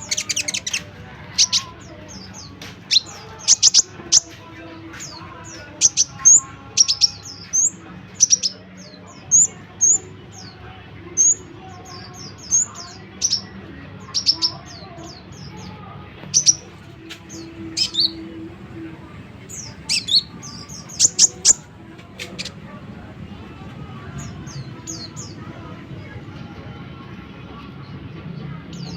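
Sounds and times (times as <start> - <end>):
songbird chirping rapidly: 0.0 - 25.7.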